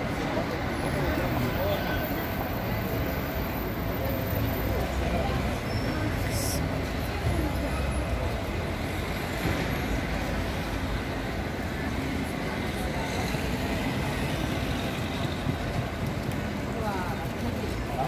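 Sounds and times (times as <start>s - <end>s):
faint voices of passers-by: 0.0s - 18.0s
traffic rumble: 0.0s - 18.0s.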